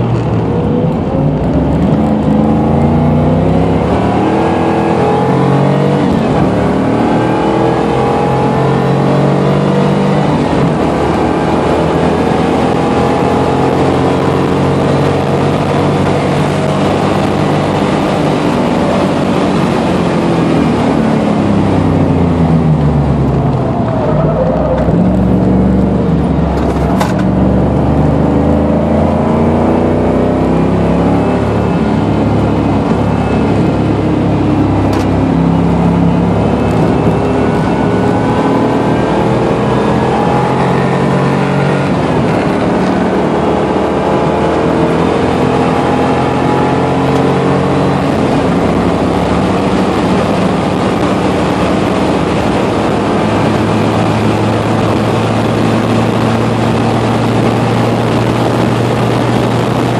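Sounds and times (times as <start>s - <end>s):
car engine revving hard: 0.0s - 59.9s
road and wind noise: 0.0s - 59.9s.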